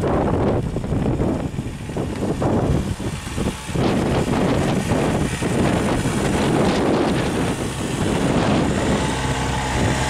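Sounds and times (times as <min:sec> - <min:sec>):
motorcycle engine idling: 0:00.0 - 0:10.0
wind buffeting microphone: 0:00.0 - 0:10.0.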